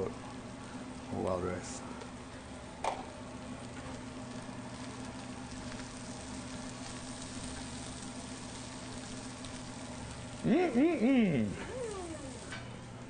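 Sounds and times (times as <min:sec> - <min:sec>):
food sizzling in frying pan: 0:00.2 - 0:12.8.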